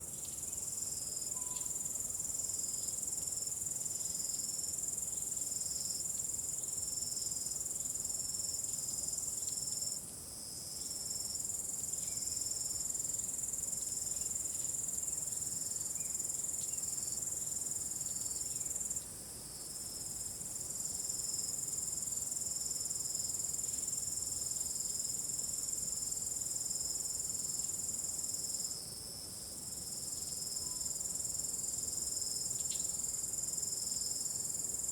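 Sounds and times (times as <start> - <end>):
crickets chirping: 0.0 - 34.9
cricket high continuous trill: 0.1 - 34.9.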